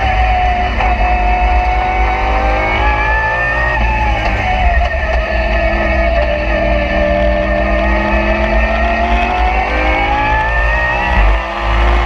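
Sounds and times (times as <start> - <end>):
race car engine from cockpit: 0.0 - 12.0.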